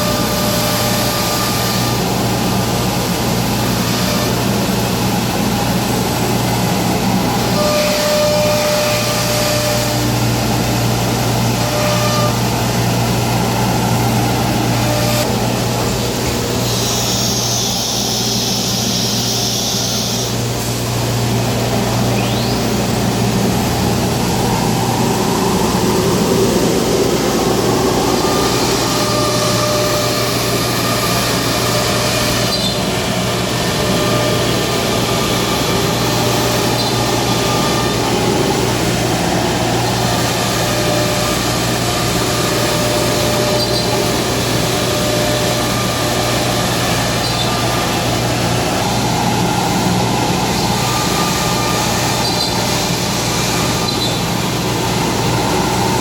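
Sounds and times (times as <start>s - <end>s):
high whining tones: 0.0s - 56.0s
router motor hum with cutting: 0.0s - 56.0s.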